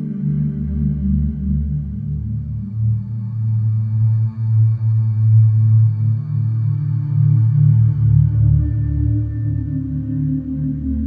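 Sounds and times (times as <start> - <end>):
ambient music low drone: 0.0 - 11.0.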